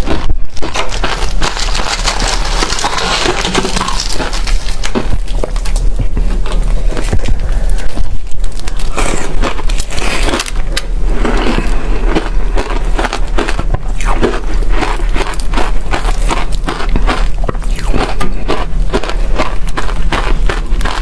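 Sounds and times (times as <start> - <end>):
freezer frost crunching: 0.0 - 21.0
steady low hum: 0.0 - 21.0.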